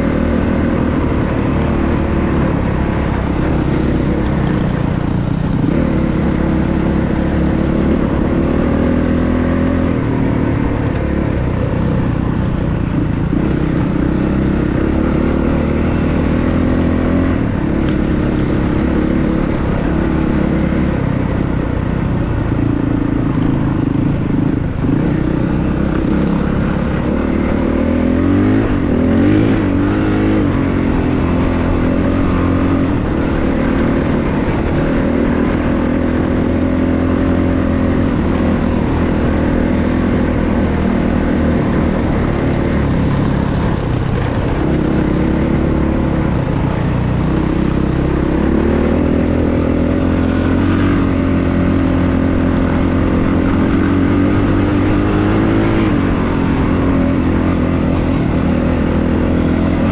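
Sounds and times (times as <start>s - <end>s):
dirt bike engine revving: 0.0s - 11.3s, 11.9s - 21.3s, 22.5s - 59.9s.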